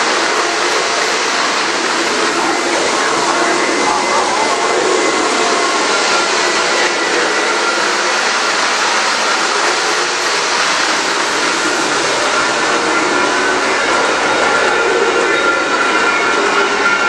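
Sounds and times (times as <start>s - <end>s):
model train wheels rumbling: 0.0s - 17.0s.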